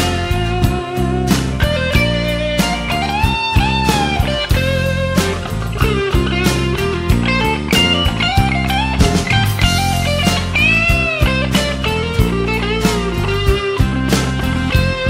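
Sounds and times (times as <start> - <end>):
song with steady drum beat: 0.0 - 15.0.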